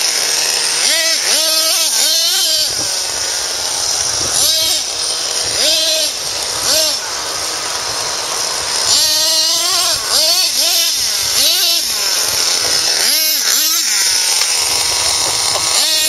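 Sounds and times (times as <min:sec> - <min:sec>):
toy truck motor revving: 0:00.0 - 0:16.0.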